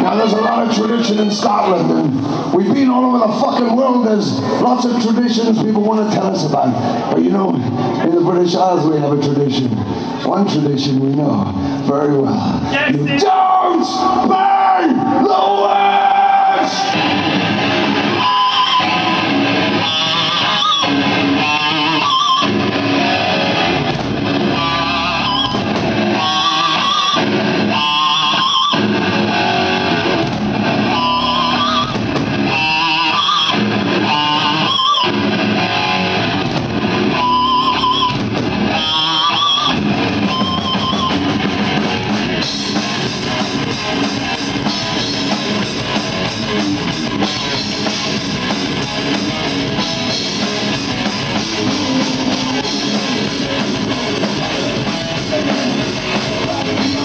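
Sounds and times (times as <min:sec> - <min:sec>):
distorted electric guitar riffing: 0:00.0 - 0:08.5, 0:11.4 - 0:57.0
heavy metal band playing live: 0:00.0 - 0:57.0.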